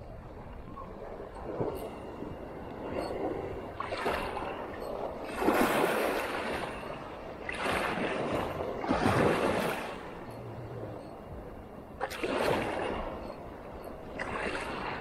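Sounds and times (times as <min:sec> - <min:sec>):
small waves washing in: 0:01.0 - 0:15.0.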